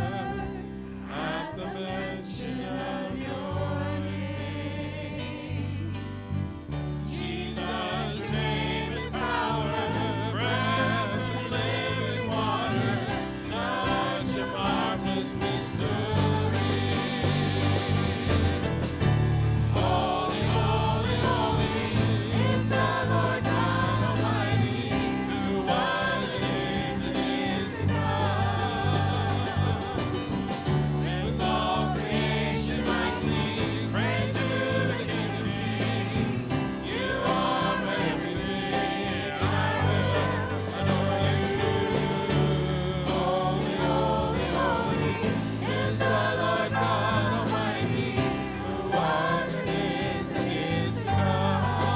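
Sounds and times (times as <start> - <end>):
group singing worship song: 0.0 - 51.9
instrumental accompaniment with bass: 0.0 - 51.9.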